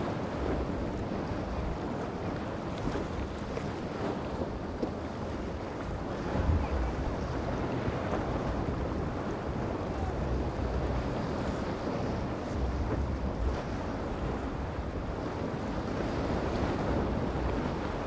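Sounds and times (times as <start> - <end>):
waves breaking: 0.0 - 18.0
wind blowing across microphone: 0.0 - 18.0.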